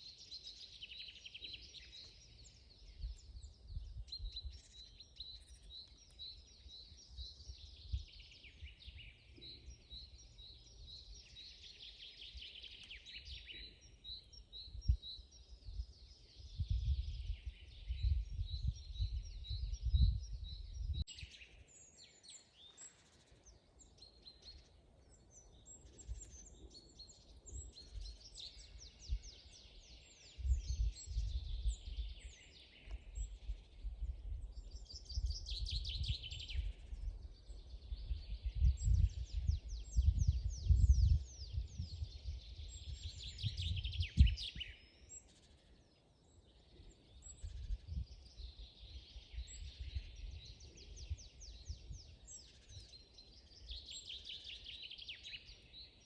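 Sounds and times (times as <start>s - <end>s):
birds singing and calling: 0.0s - 56.0s.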